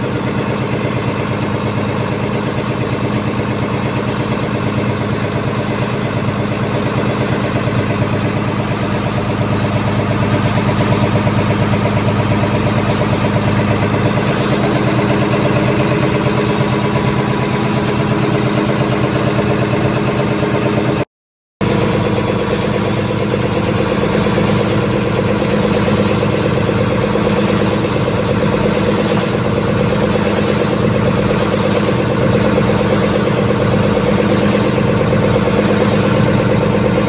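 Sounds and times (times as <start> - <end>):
boat engine droning: 0.0 - 21.0, 21.6 - 37.0.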